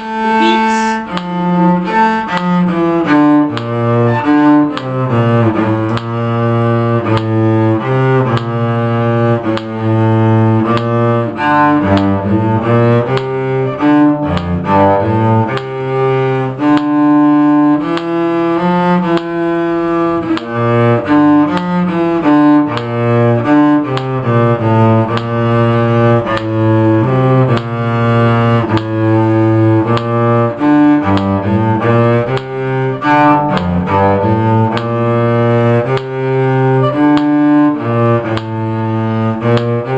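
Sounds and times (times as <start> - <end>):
cello bowed melody: 0.0 - 39.9
metronome click: 0.2 - 39.9.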